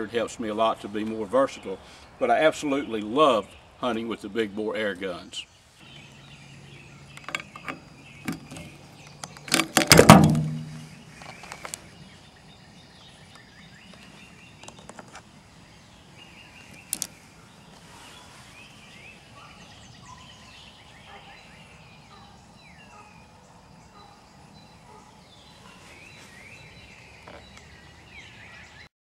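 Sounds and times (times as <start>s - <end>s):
birds chirping faintly: 0.0s - 28.9s.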